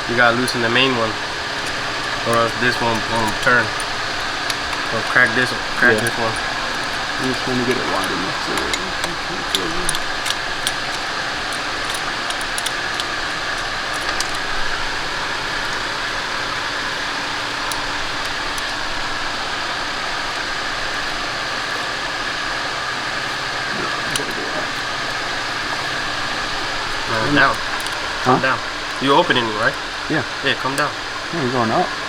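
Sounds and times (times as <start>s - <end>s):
wrenches clicking on metal fittings: 0.0s - 31.3s
machine whirring with high whine: 0.0s - 32.0s.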